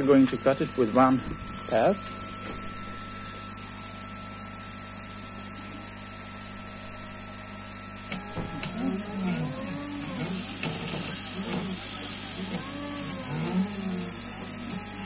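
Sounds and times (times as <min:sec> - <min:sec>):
stepper motors whining: 0:00.0 - 0:04.1, 0:05.4 - 0:15.0
pump and fan humming: 0:00.0 - 0:15.0.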